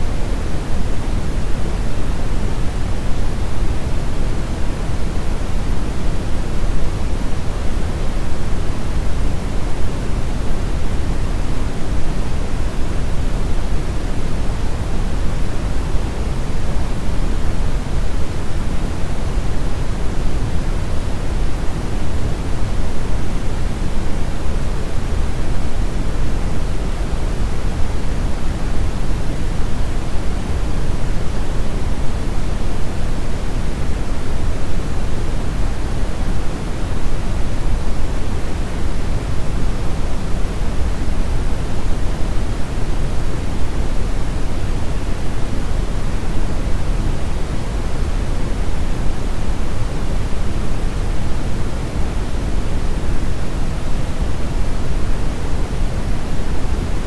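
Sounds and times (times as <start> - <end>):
brown noise rumbling hiss: 0.0 - 57.0.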